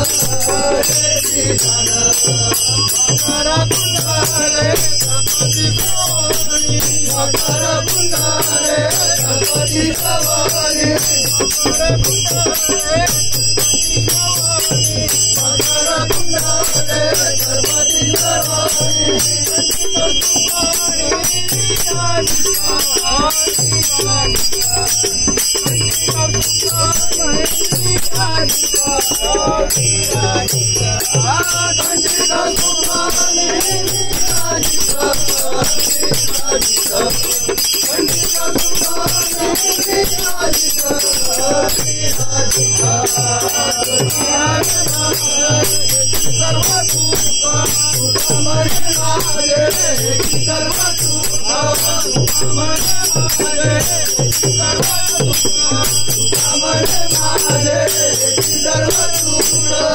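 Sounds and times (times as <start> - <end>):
brass cymbals ringing: 0.0 - 59.9
men singing devotional song: 0.0 - 59.9.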